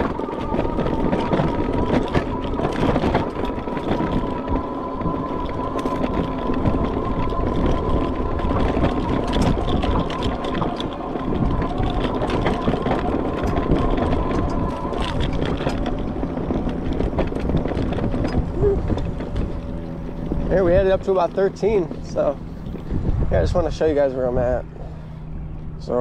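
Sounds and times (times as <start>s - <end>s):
bike rattling over bumps: 0.0s - 26.0s
electric motor whine: 0.0s - 26.0s
wind rushing over microphone: 0.0s - 26.0s.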